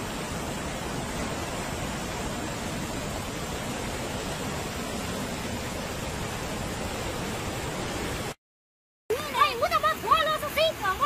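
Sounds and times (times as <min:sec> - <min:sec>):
rushing floodwater torrent: 0:00.0 - 0:08.4, 0:09.1 - 0:11.0.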